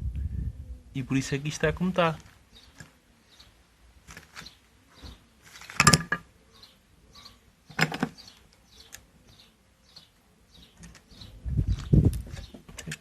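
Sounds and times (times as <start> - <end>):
small birds chirping: 0.6 - 13.0.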